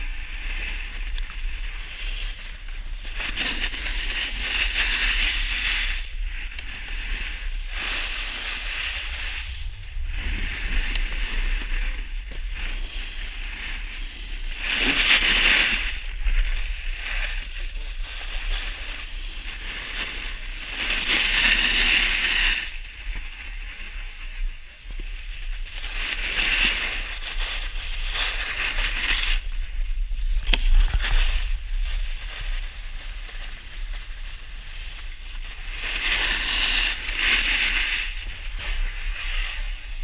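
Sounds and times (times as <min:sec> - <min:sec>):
snowboard scraping over snow: 0:00.0 - 0:40.0.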